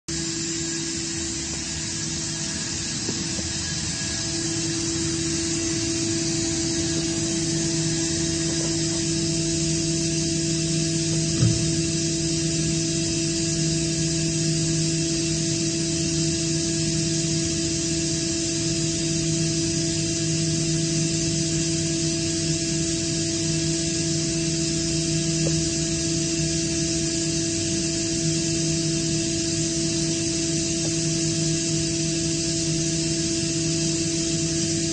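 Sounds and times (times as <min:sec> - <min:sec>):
air compressor humming and whining: 0:00.1 - 0:34.9.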